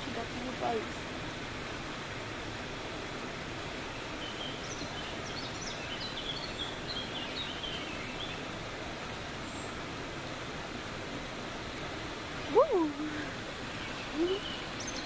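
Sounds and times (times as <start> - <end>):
flowing water: 0.0 - 15.0.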